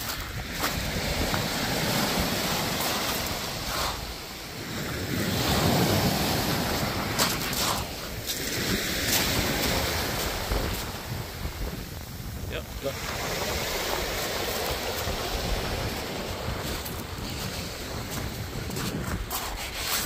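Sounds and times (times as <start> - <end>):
waves washing over shingle: 0.0 - 20.0.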